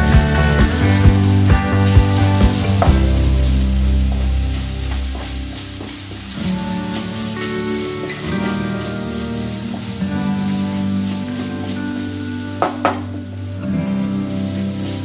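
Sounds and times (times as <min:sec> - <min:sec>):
background music: 0:00.0 - 0:15.0
food sizzling in a pan: 0:00.0 - 0:15.0.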